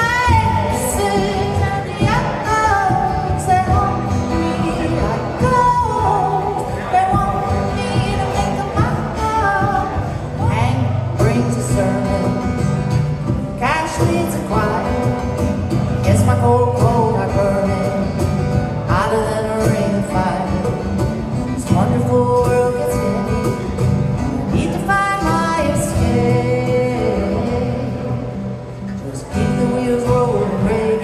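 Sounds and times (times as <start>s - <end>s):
person singing country-pop song: 0.0s - 31.0s.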